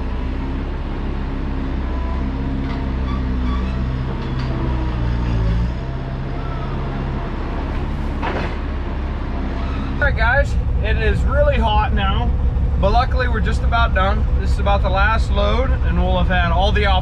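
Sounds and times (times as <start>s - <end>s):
farm machine engine droning: 0.0s - 17.0s.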